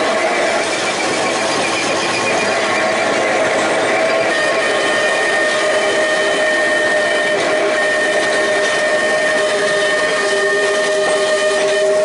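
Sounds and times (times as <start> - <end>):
tram car rumbling: 0.0 - 12.0
tram wheels squealing on rails: 0.0 - 12.0.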